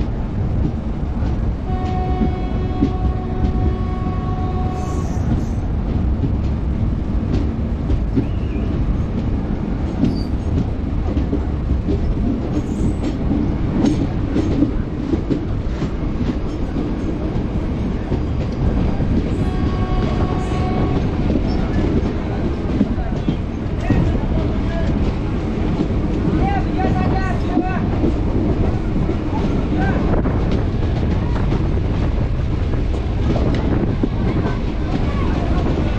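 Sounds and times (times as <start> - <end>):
train rumbling past: 0.0 - 35.9.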